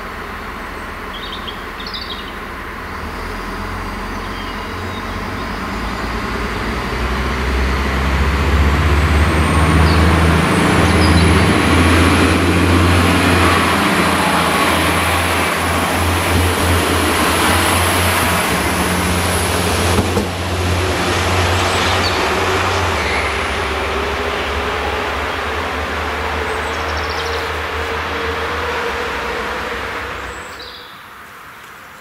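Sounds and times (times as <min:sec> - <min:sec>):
rail rumble: 0:00.0 - 0:32.0
train engine drone: 0:00.0 - 0:32.0.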